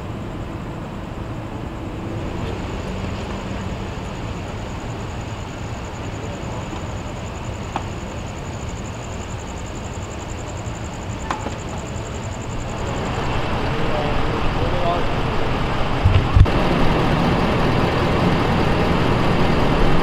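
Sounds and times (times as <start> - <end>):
vehicle rumble and traffic: 0.0 - 20.0.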